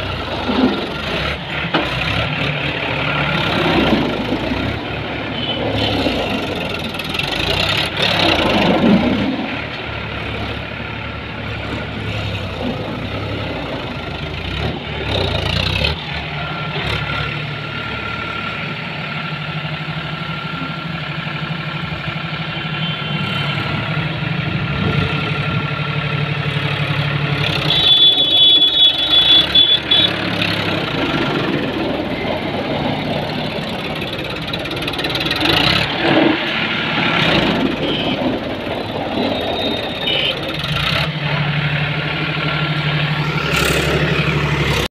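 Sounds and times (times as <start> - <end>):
tractor diesel engine: 0.0 - 44.9.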